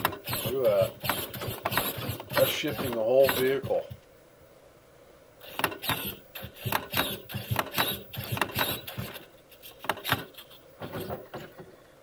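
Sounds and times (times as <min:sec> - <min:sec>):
steering servo whirring bursts: 0:00.0 - 0:04.0, 0:05.4 - 0:11.7.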